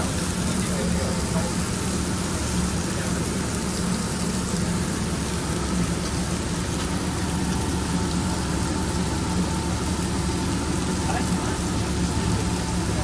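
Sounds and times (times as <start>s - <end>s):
kitchen equipment humming: 0.0s - 13.0s
steady hiss: 0.0s - 13.0s.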